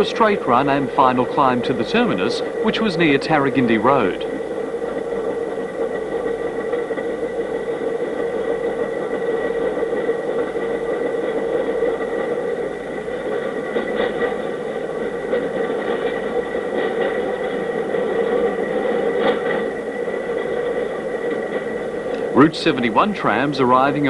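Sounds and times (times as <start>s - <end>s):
steady tones: 0.0s - 24.0s.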